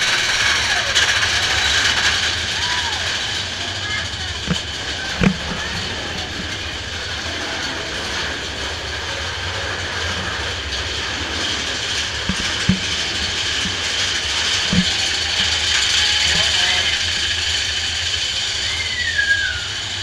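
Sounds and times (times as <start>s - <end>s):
roller coaster rattling on track: 0.0s - 20.0s.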